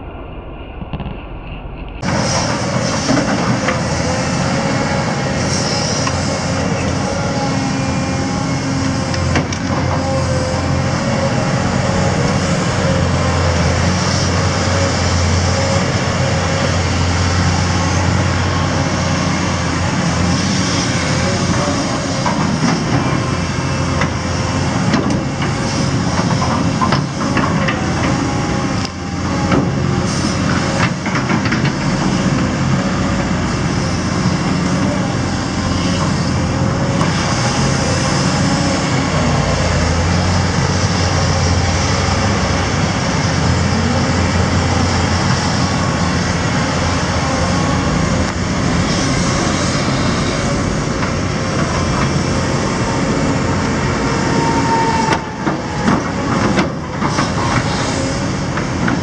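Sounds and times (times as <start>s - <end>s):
excavator diesel engine: 1.8s - 59.0s.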